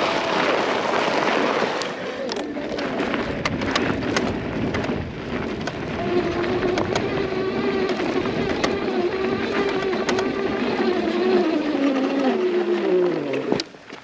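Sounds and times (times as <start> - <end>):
gravel ticks: 0.0 - 14.0
vehicle riding over dirt: 0.0 - 14.0
steady motor tone: 1.7 - 13.8.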